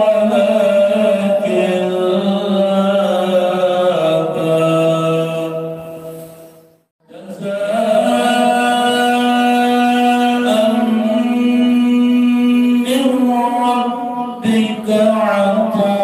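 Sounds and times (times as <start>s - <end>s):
man reciting melodically: 0.0s - 5.8s, 7.0s - 16.0s.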